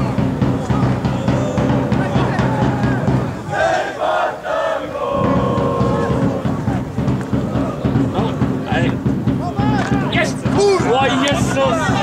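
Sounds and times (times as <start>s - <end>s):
crowd chanting: 0.0s - 12.0s.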